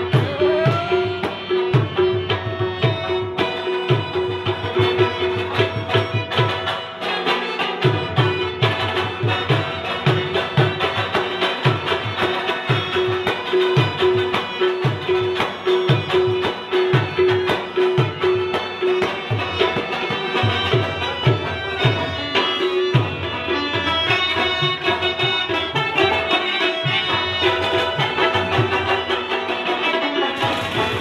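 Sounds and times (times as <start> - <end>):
harmonium: 0.0 - 31.0
plucked rabab: 0.0 - 31.0
tabla: 0.0 - 31.0.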